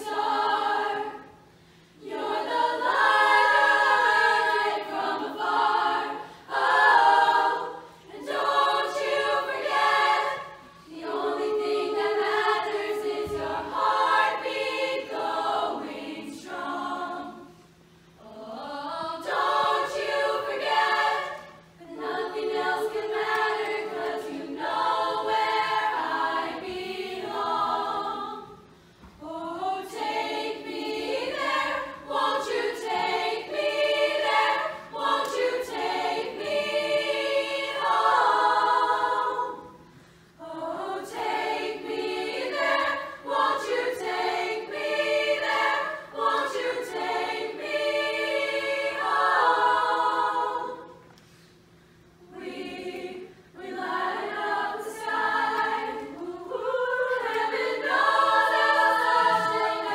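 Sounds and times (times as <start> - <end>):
girls choir singing in harmony: 0.0 - 59.9.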